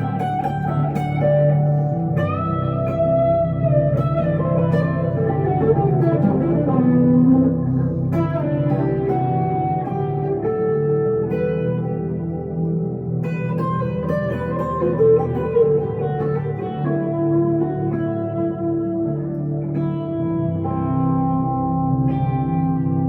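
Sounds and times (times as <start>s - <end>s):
electric guitar melody: 0.0s - 23.0s.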